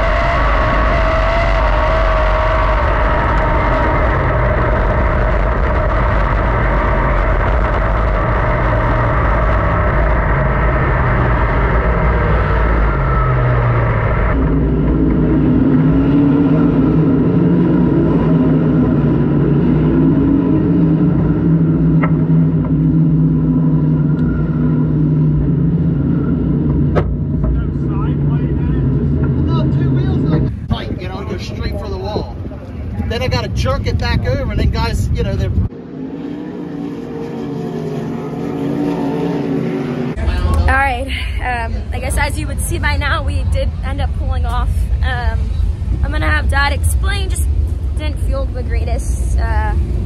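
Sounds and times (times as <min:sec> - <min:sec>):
race car engine roaring: 0:00.0 - 0:50.0.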